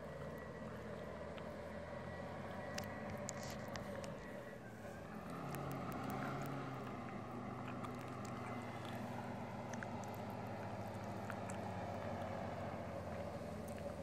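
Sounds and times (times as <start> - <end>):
snow-clearing machine engine: 0.0 - 14.0
small ticks: 0.3 - 4.3, 5.2 - 14.0.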